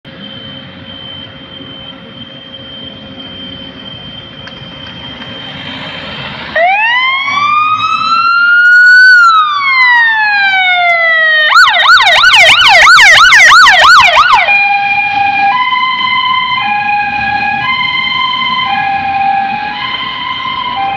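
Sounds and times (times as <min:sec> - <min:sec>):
fire engine engine running: 0:00.0 - 0:20.9
siren wailing and yelping: 0:00.9 - 0:20.9.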